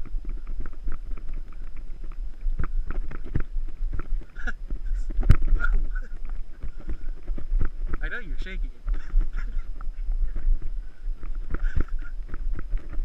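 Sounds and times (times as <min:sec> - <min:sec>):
footsteps on gravel: 0:00.0 - 0:13.0
wind rumble on microphone: 0:00.0 - 0:13.0.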